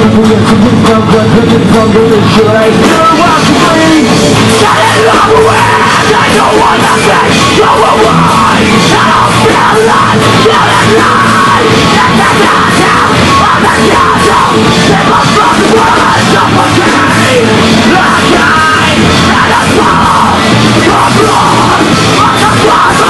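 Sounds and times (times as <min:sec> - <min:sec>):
bass guitar: 0:00.0 - 0:23.0
distorted electric guitars: 0:00.0 - 0:23.0
drum kit: 0:00.0 - 0:23.0
shouted vocals: 0:02.2 - 0:23.0.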